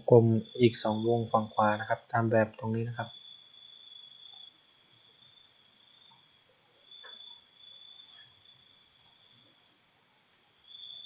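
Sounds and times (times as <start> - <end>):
faint high-pitched steady tone: 0.0 - 11.0.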